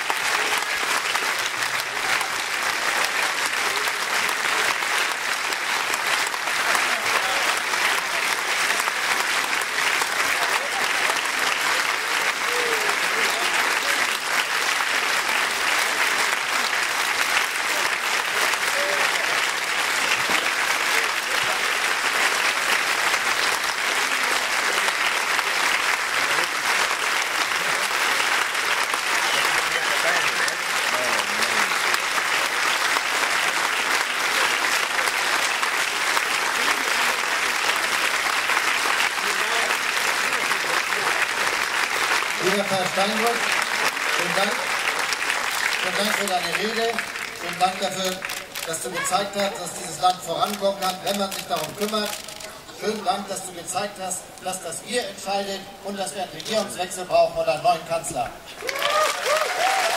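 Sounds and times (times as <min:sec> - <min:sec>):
audience applauding: 0:00.0 - 0:56.8, 0:58.5 - 0:59.9.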